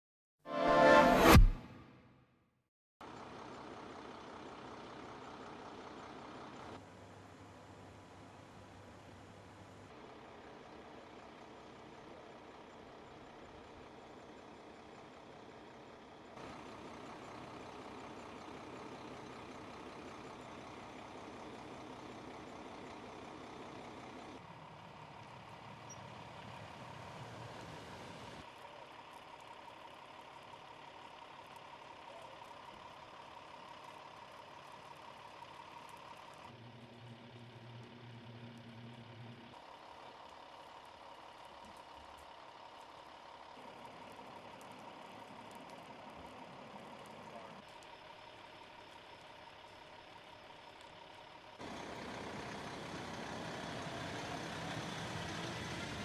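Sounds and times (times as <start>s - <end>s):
vehicle engines idling: 3.0s - 56.0s.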